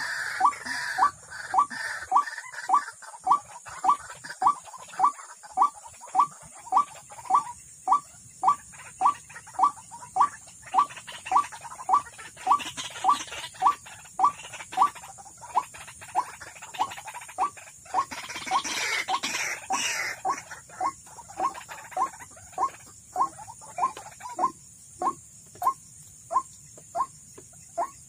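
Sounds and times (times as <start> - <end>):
waterhen call repeating: 0.0 - 27.1.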